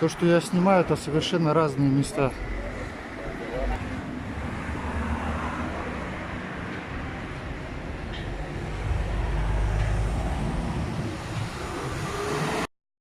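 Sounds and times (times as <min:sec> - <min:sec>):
rumble of passing vehicles: 0:00.0 - 0:12.7.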